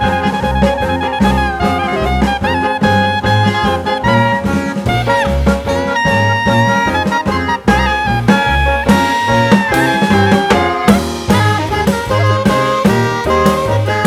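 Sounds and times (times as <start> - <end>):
upbeat swing jazz with brass: 0.0 - 14.0.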